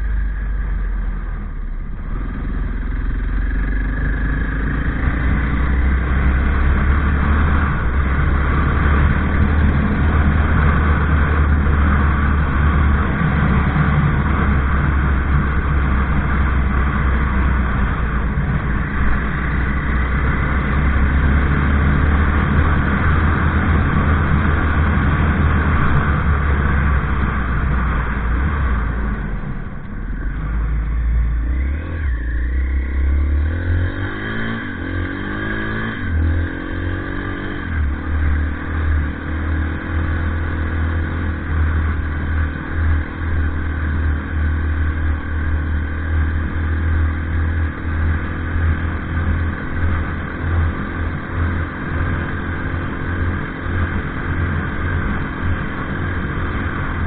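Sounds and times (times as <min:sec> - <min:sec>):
off-road vehicle engine accelerating: 0:00.0 - 0:57.0.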